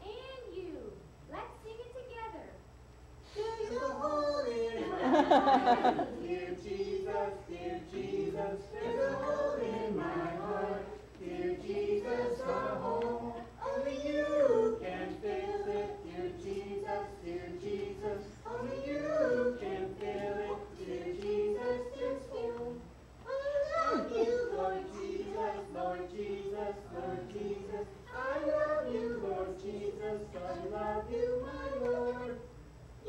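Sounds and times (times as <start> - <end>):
several voices singing: 3.3 - 32.5.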